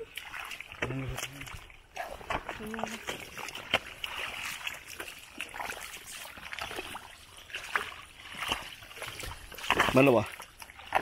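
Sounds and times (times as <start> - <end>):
hands sloshing in mud and water: 0.0 - 11.0.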